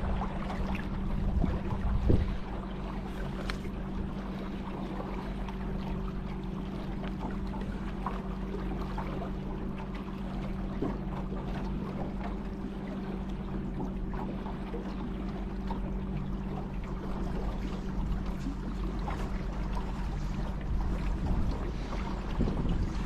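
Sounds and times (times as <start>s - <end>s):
low motor hum: 0.0s - 23.0s
water trickling and splashing: 0.0s - 23.0s.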